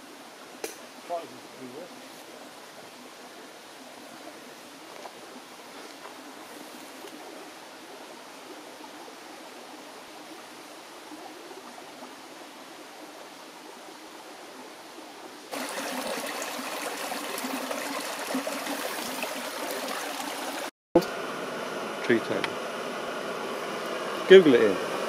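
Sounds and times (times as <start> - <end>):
stream flowing over stones: 0.1 - 20.7.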